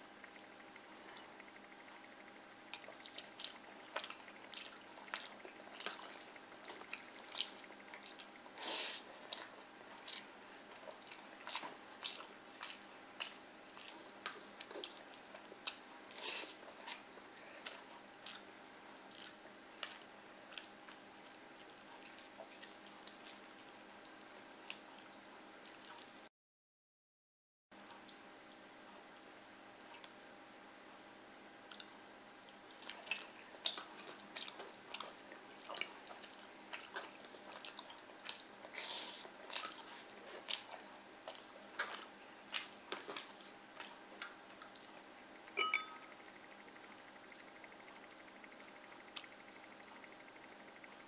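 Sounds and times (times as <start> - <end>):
wet chewing and lip smacks: 0.2 - 26.1, 27.9 - 45.0, 47.3 - 48.2, 49.1 - 49.9.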